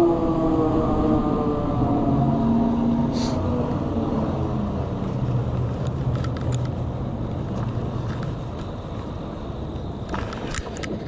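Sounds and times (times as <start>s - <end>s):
wind and tyre noise: 0.0s - 11.0s.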